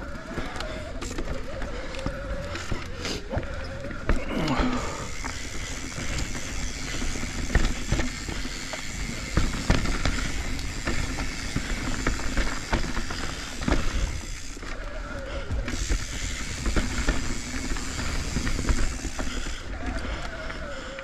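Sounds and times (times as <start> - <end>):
bike rattling over roots: 0.0 - 21.0
bike tyres rumbling over dirt: 0.0 - 21.0.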